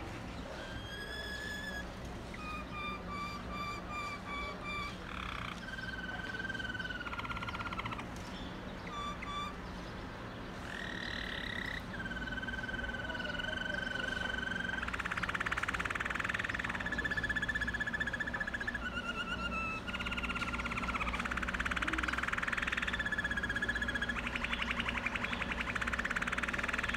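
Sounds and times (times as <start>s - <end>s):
canary singing: 0.3s - 26.9s.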